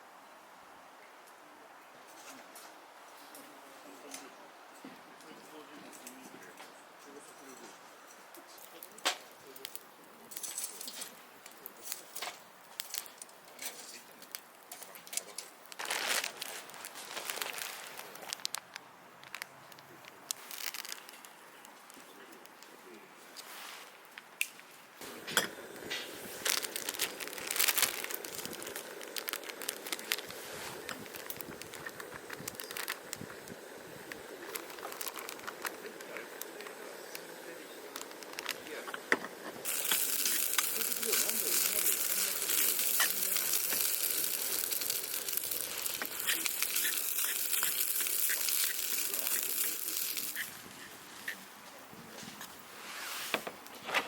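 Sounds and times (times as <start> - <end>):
fire crackling: 2.1 - 54.0
kindling crinkling and snapping: 5.2 - 52.6.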